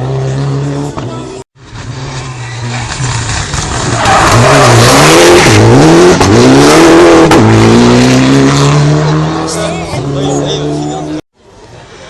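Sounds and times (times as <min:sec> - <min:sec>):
rally car engine revving: 0:00.0 - 0:11.2.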